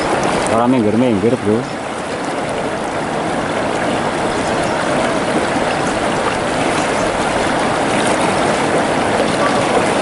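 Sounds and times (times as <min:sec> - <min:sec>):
river water flowing over rocks: 0:00.0 - 0:10.0.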